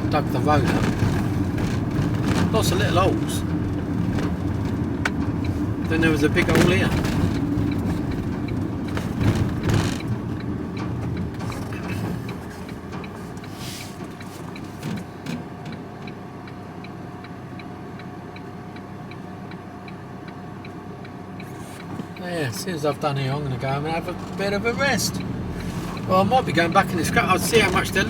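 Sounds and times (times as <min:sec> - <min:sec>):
turn signal ticking: 0:00.0 - 0:28.0
van driving: 0:00.0 - 0:28.0
van engine idling: 0:00.0 - 0:28.0.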